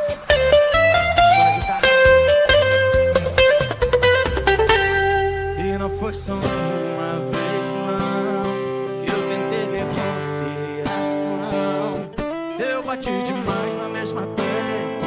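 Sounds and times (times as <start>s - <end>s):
bachata guitar music: 0.0s - 15.0s.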